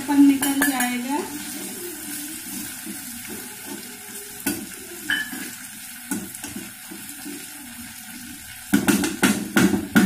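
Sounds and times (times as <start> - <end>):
flour sizzling in oil: 0.0 - 10.0.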